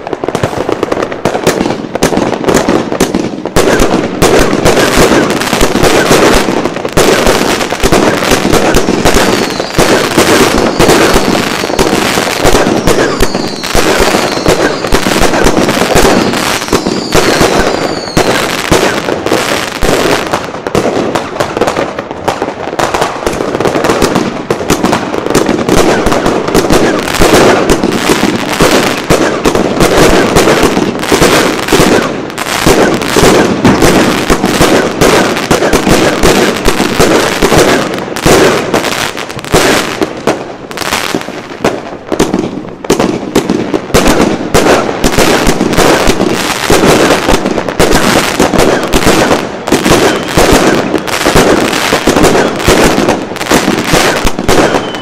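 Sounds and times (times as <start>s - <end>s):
fireworks launching and bursting: 0.0s - 55.0s.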